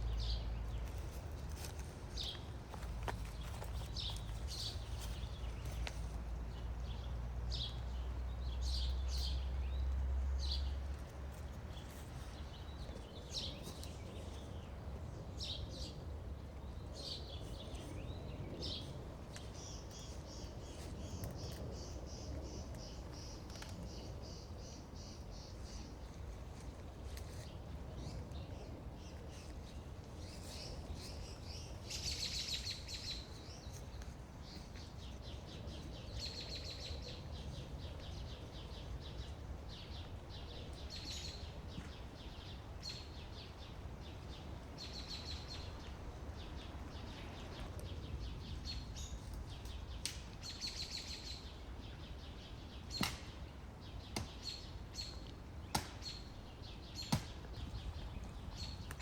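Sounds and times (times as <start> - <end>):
low background rumble: 0.0 - 59.0.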